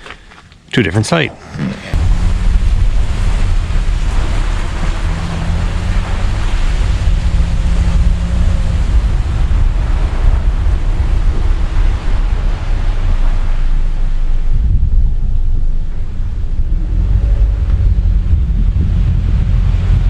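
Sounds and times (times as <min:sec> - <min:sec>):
vehicle engine and road rumble: 0:01.4 - 0:20.0.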